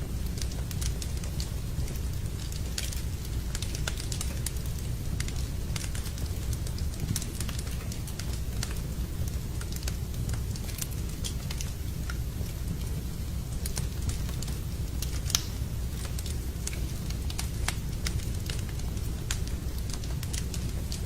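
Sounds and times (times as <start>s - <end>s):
steady low rumble: 0.0s - 21.0s
wood fire crackling and popping: 0.0s - 21.0s.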